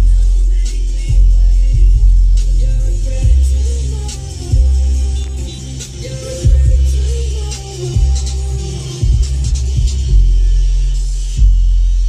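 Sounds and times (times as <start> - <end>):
bass-heavy hip hop music: 0.0 - 12.0.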